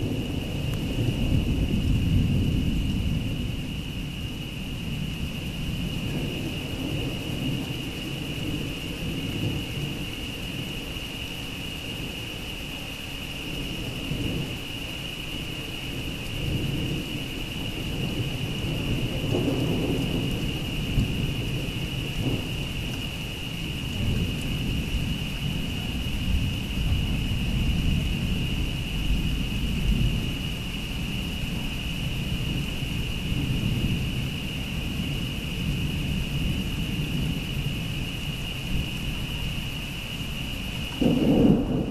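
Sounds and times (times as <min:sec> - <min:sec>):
rain falling: 0:00.0 - 0:41.9
thunder rumbling: 0:00.0 - 0:41.9.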